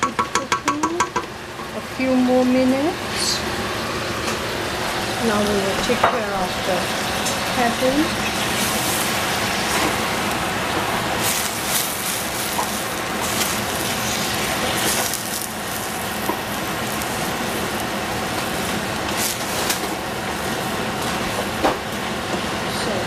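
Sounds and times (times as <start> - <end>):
food sizzling in a pan: 2.4 - 22.6
crackles and pops of frying: 2.6 - 22.6.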